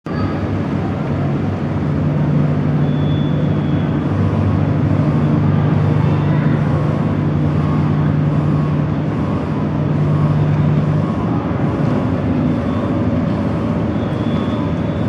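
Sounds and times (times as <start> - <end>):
ferry diesel engines droning: 0.0 - 15.0.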